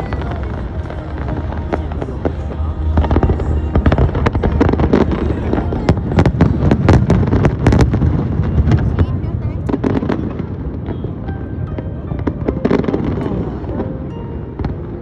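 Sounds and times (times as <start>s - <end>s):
fireworks bangs and crackles: 0.0s - 13.8s
steady low rumble: 0.0s - 14.8s.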